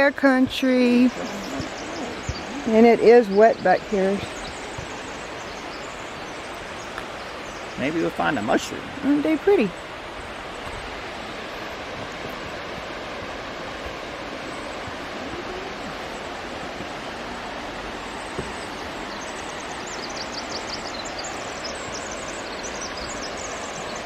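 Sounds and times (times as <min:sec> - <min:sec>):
rushing falling water: 0:00.0 - 0:24.0
songbird singing: 0:00.0 - 0:24.0.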